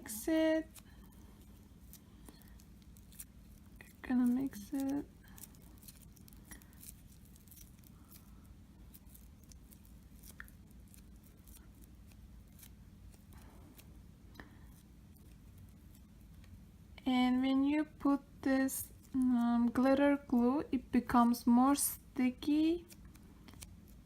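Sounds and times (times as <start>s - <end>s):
sticky clicks of hands kneading dough: 0.0s - 17.1s, 18.0s - 24.0s
low steady hum: 0.0s - 24.0s.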